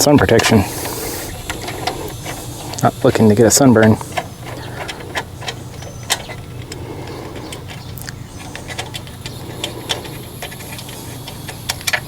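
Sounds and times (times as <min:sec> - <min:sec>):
hand tools clicking on metal: 0:00.0 - 0:12.0
steady low hum: 0:00.0 - 0:12.0.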